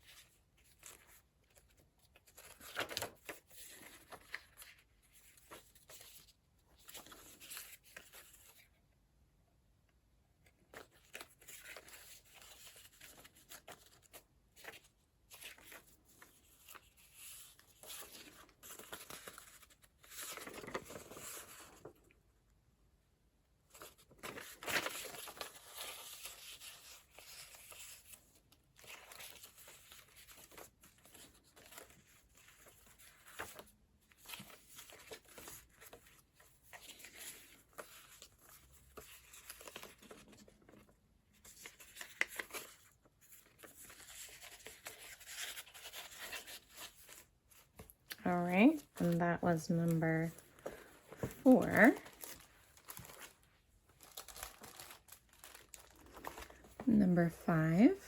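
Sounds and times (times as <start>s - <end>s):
paper pages rustling: 0.0s - 8.8s, 10.4s - 22.2s, 23.6s - 58.0s.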